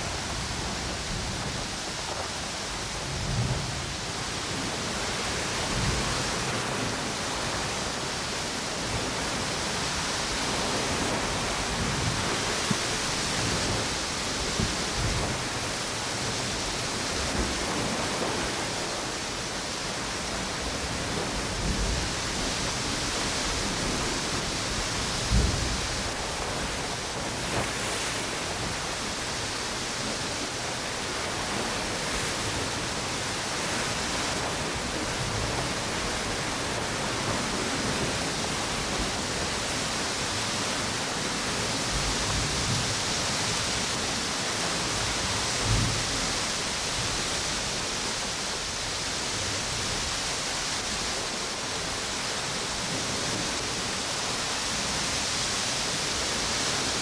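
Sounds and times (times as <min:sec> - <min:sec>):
ocean waves on beach: 0:00.0 - 0:57.0
strong wind: 0:00.0 - 0:57.0.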